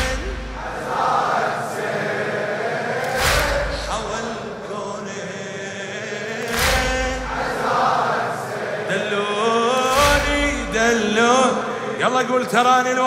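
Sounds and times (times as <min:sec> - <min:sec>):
crowd of men chanting in unison: 0:00.0 - 0:12.9.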